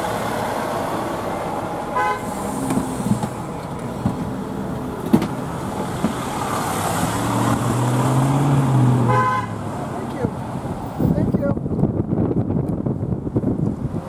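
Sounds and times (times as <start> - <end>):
fire engine engine droning: 0.0 - 13.9
road noise inside car: 0.0 - 14.0.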